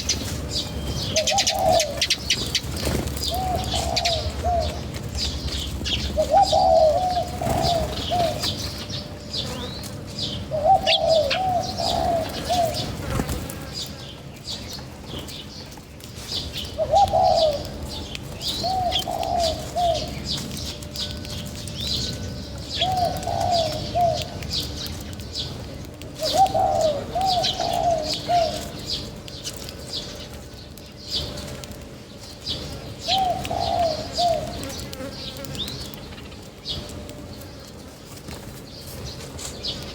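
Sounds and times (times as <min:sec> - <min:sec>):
pigeons cooing: 0:00.0 - 0:39.9
small birds chirping: 0:00.0 - 0:39.9.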